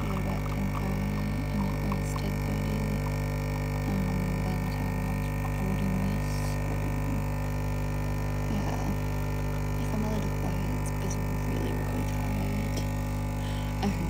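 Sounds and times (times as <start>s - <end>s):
coffee machine pump humming: 0.0s - 14.0s
coffee pouring into cup: 0.0s - 14.0s.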